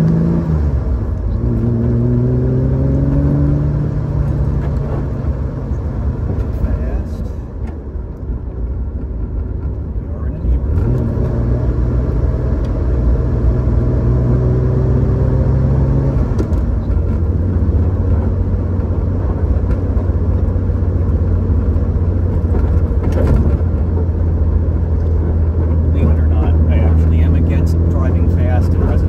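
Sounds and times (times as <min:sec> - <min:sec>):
car engine droning: 0:00.0 - 0:29.0
road noise: 0:00.0 - 0:29.0.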